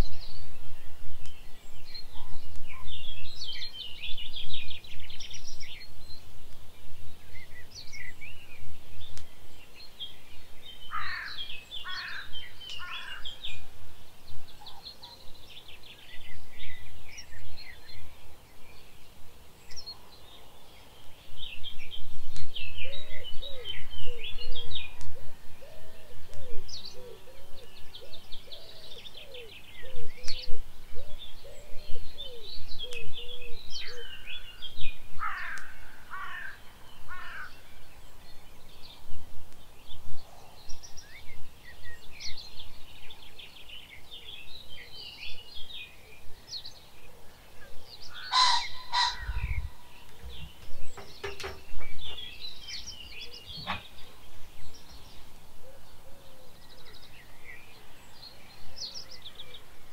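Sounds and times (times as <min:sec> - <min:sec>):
birds chirping and trilling: 0:00.0 - 0:59.9
low repeated whistled bird notes: 0:00.0 - 0:59.9.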